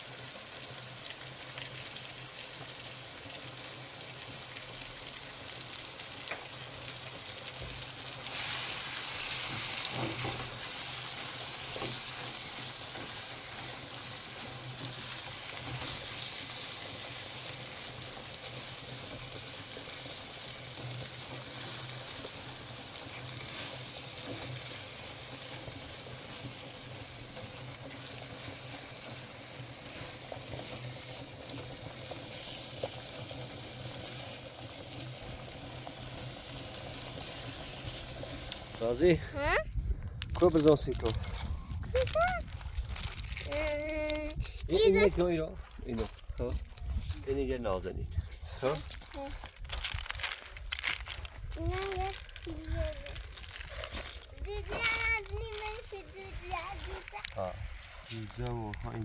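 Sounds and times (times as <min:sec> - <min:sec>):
food sizzling in a frying pan: 0:00.0 - 0:47.4, 0:48.4 - 0:59.0.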